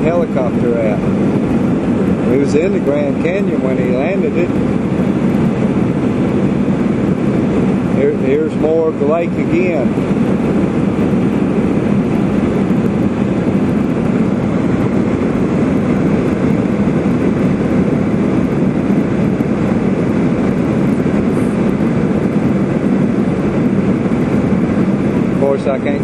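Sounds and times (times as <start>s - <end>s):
airliner cabin drone: 0.0s - 26.0s.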